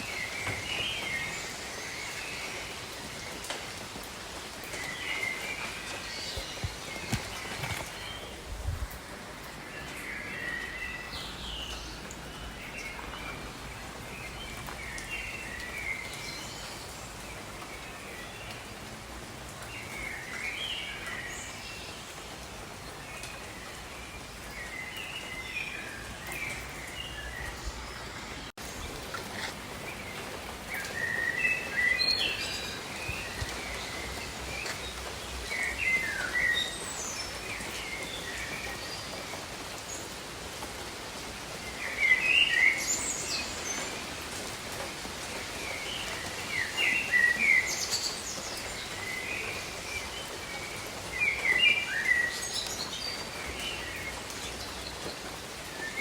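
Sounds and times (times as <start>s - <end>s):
jungle birds chirping: 0.0s - 18.8s, 19.6s - 56.0s
falling rain hiss: 0.0s - 56.0s.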